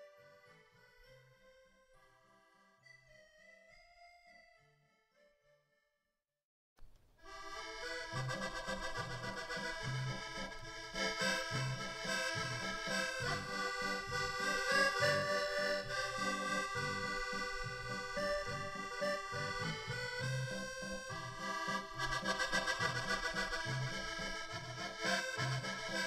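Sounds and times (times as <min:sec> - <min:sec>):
accordion playing a tune: 0:00.0 - 0:05.8, 0:07.2 - 0:26.0.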